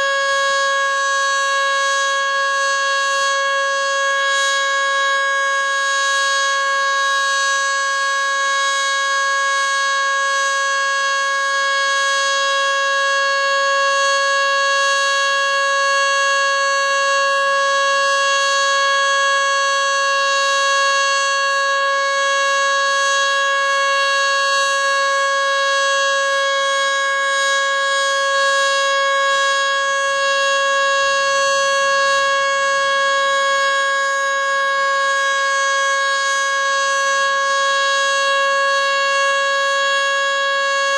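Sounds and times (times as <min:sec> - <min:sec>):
outdoor warning siren steady tone: 0:00.0 - 0:40.9.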